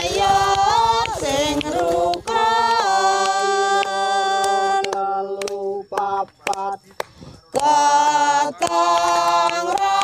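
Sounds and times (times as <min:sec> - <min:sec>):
person singing a cappella: 0:00.0 - 0:06.9, 0:07.5 - 0:10.0.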